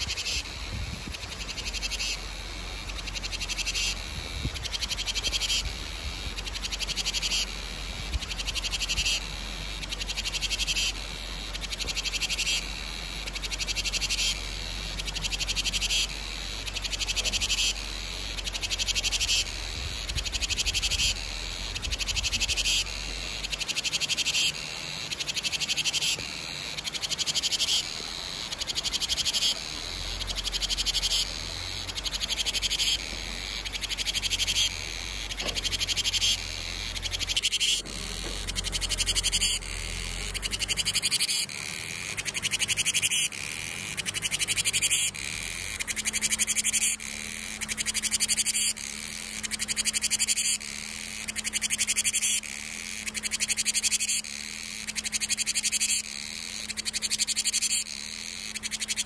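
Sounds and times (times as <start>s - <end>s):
cicadas singing: 0.0s - 59.0s.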